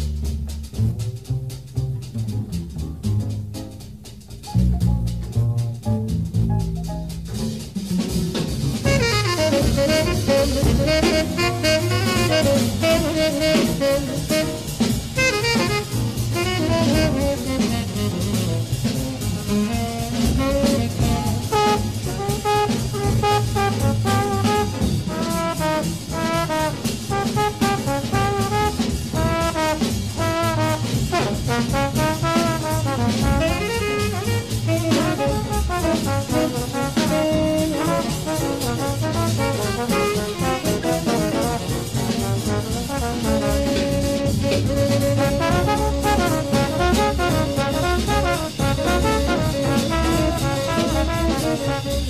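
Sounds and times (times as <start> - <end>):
drum kit beat: 0.0 - 52.0
jazz with saxophone and brass: 0.0 - 52.0.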